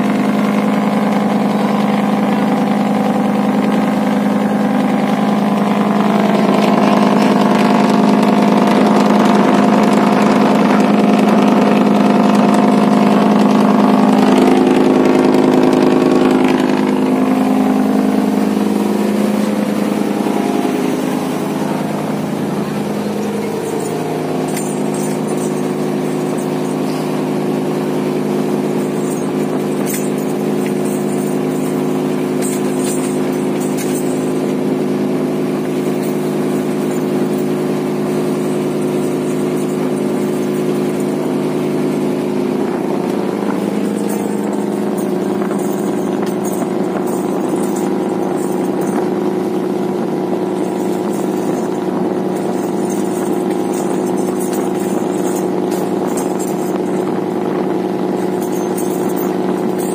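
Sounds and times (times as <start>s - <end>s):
boat engine running: 0.0s - 59.9s
water rushing along hull: 0.0s - 59.9s.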